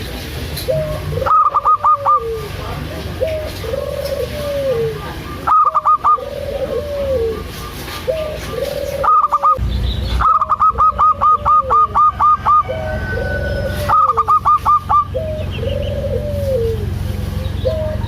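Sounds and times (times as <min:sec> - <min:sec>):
dove singing: 0:00.0 - 0:18.0
steady low hum: 0:00.0 - 0:18.0.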